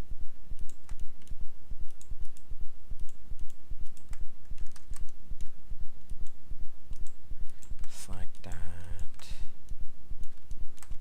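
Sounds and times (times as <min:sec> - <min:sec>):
low pulsing rumble: 0:00.0 - 0:11.0
computer mouse and keyboard clicks: 0:00.6 - 0:09.3, 0:10.2 - 0:11.0.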